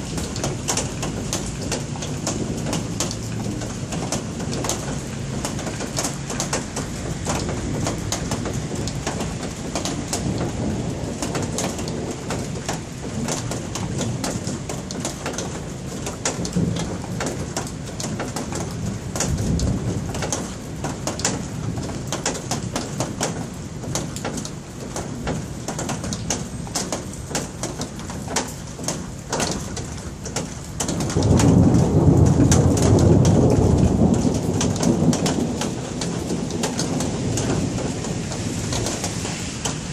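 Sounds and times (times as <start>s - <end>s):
thunder rumbling: 0.0s - 24.0s, 30.7s - 39.9s
raindrops ticking: 0.0s - 39.9s
steady rain: 0.0s - 39.9s.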